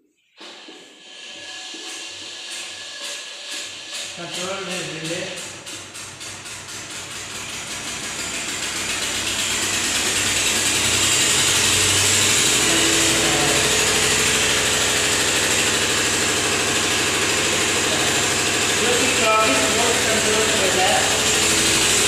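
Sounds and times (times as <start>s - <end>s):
rapid mechanical clattering: 1.2s - 22.0s.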